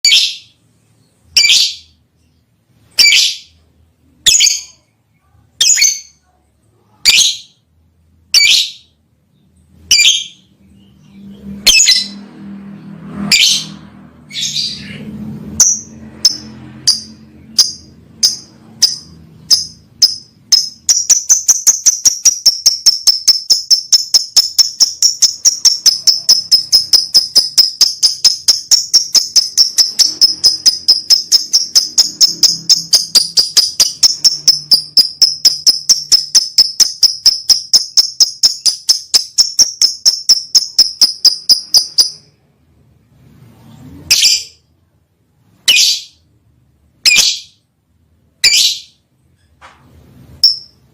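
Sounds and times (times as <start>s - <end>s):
lovebird chirping: 0.0s - 7.6s, 8.3s - 12.3s, 13.2s - 42.4s, 44.0s - 44.7s, 45.6s - 46.3s, 47.0s - 47.6s, 48.4s - 49.0s, 50.3s - 50.9s.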